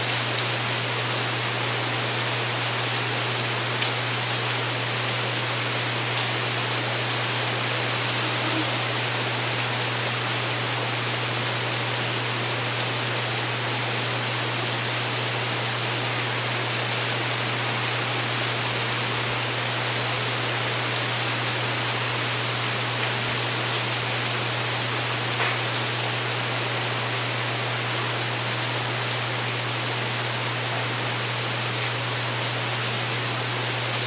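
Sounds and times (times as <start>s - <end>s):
rain on a roof: 0.0s - 34.0s.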